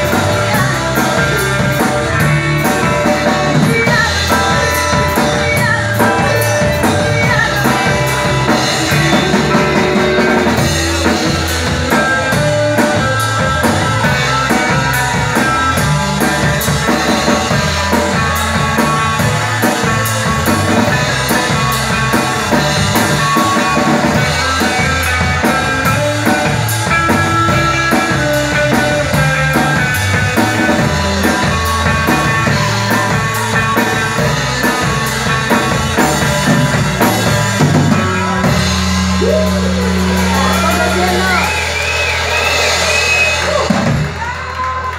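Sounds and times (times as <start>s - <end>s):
drum kit beat: 0.0s - 44.9s
electric guitar: 0.0s - 44.9s
live rock band playing: 0.0s - 44.9s.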